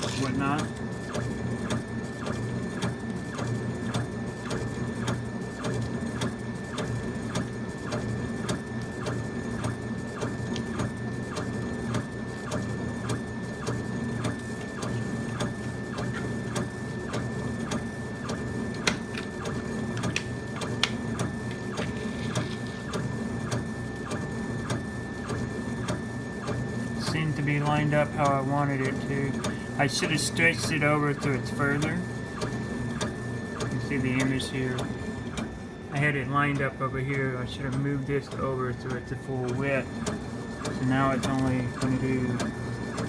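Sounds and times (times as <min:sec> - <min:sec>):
laser engraver motor whine: 0:00.0 - 0:43.0.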